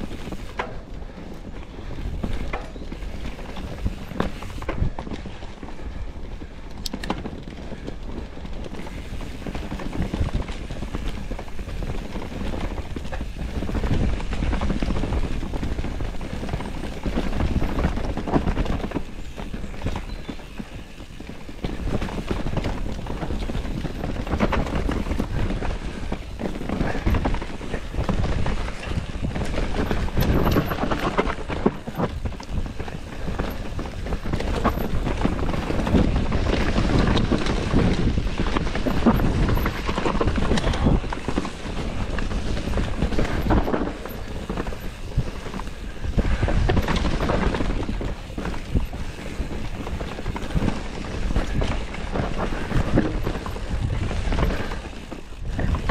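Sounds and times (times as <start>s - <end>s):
bike rattling and knocking: 0.0s - 55.9s
bike tyres rolling over dirt: 0.0s - 55.9s.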